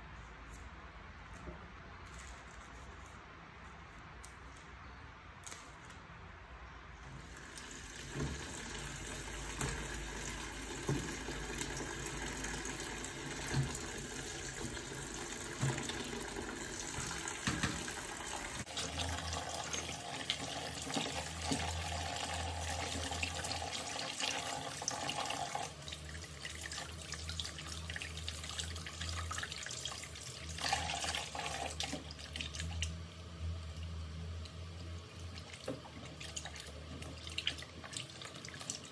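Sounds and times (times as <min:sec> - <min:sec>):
tap water running into basin: 0:07.2 - 0:33.0, 0:33.6 - 0:38.9.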